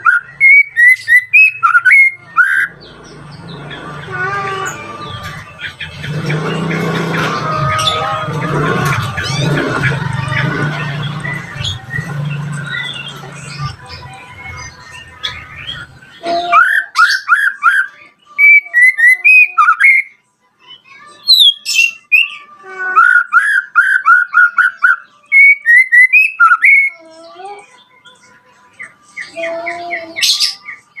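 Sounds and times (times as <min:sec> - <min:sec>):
bird singing: 0:00.0 - 0:31.0.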